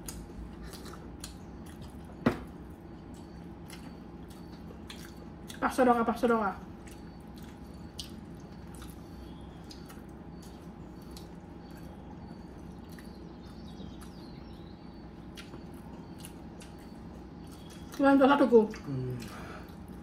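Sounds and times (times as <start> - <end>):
chewing and eating: 0.0 - 20.0
low background hum: 0.0 - 20.0.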